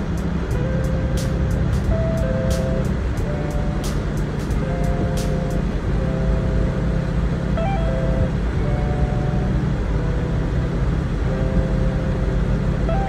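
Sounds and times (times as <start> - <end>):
car driving rumble: 0.0 - 13.0
slow melody of held notes: 0.0 - 13.0.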